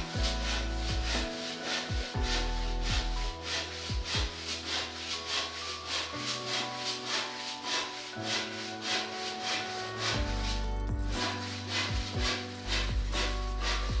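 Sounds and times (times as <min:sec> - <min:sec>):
handsaw cutting wood: 0:00.0 - 0:14.0
soft background music: 0:00.0 - 0:14.0.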